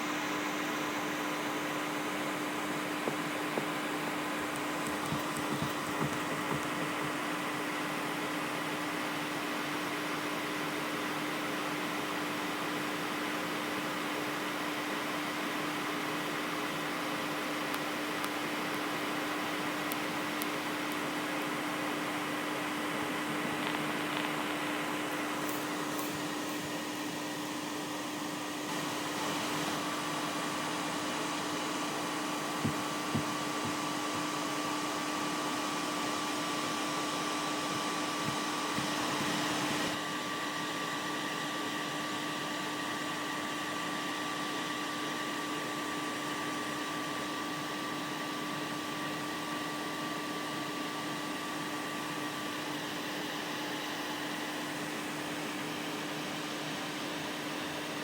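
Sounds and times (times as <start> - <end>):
small fan whirring: 0.0 - 58.0.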